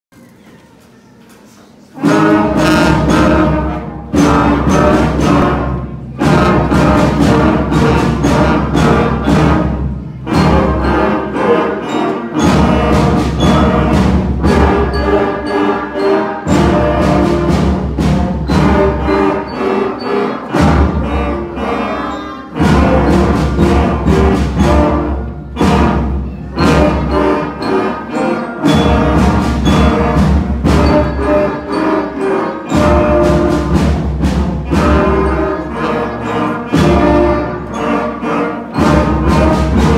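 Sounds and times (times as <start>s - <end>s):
school concert band playing: 0.2s - 39.9s.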